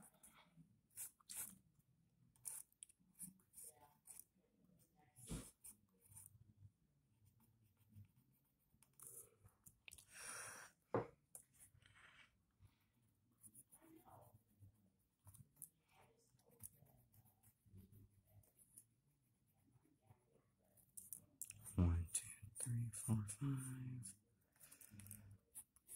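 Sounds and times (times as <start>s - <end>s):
pencil scratching on paper: 0.0s - 9.8s, 10.6s - 25.9s.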